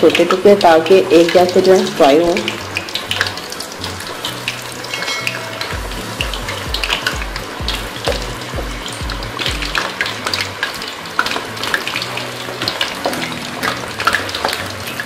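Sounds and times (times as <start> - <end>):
potatoes deep-frying with crackles: 0.0 - 15.0.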